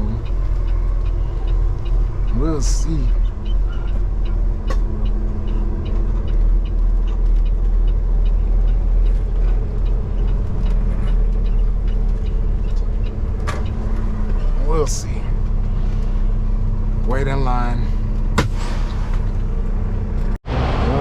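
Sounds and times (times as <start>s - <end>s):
diesel truck engine idling: 0.0s - 20.9s.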